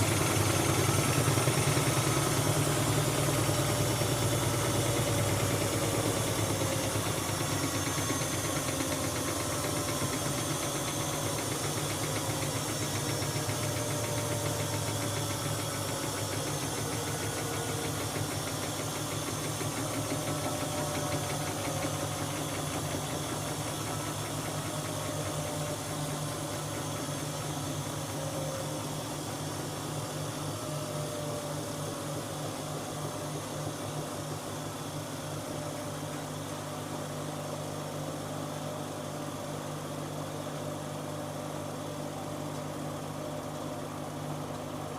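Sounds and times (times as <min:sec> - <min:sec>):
washing machine running: 0:00.0 - 0:44.9.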